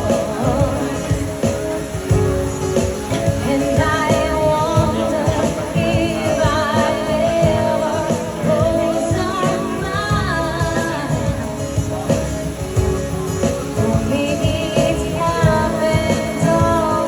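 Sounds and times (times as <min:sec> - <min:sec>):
guitar and bass: 0:00.0 - 0:17.0.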